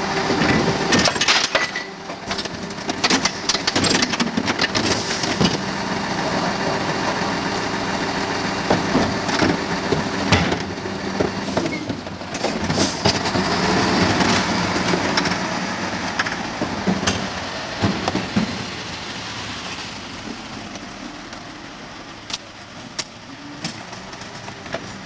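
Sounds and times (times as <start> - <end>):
garbage truck diesel engine running: 0.0 - 25.0.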